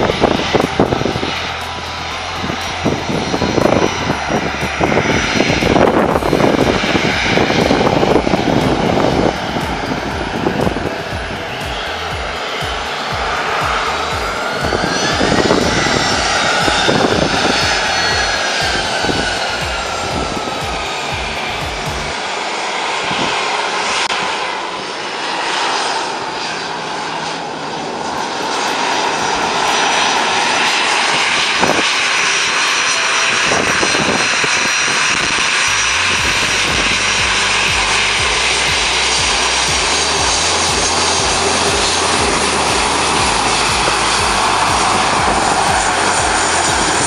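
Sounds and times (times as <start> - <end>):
jet engines whining and roaring: 0.0 - 47.0.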